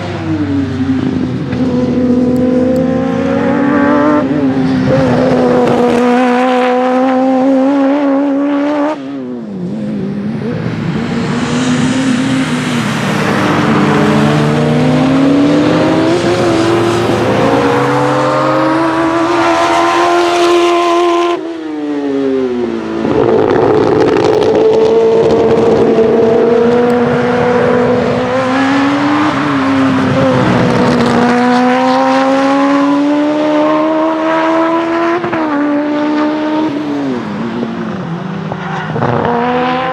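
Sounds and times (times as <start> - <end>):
motorcycle engine accelerating: 0.0 - 21.5, 22.3 - 38.2.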